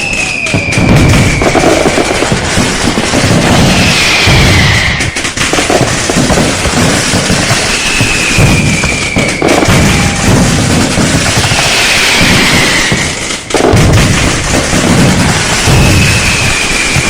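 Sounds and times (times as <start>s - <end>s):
firecrackers banging and crackling: 0.0s - 17.0s
high firework whistles: 0.0s - 17.0s.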